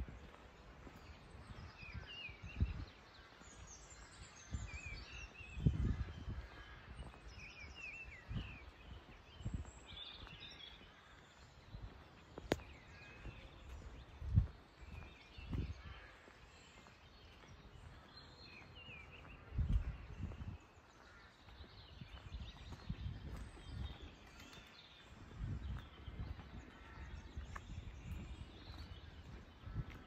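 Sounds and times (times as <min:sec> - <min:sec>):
small songbirds chirping: 0:00.0 - 0:30.0.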